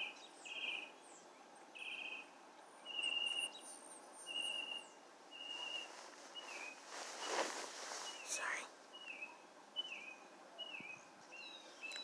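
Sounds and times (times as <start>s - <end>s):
whistled bird notes: 1.8s - 12.0s.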